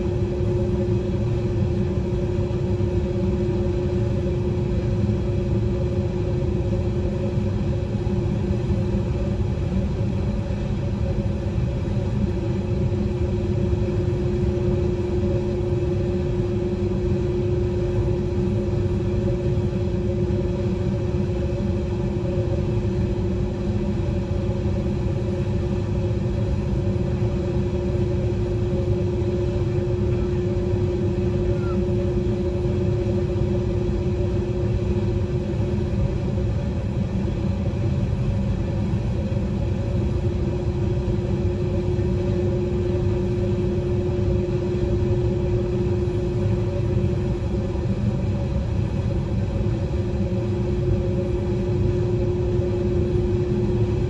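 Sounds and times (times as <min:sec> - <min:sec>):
jet engines idling: 0:10.5 - 0:54.0.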